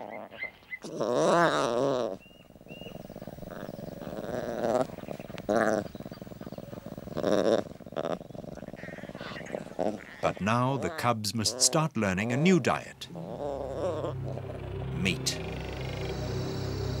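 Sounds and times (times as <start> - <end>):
lion cubs calling: 0.0 - 17.0.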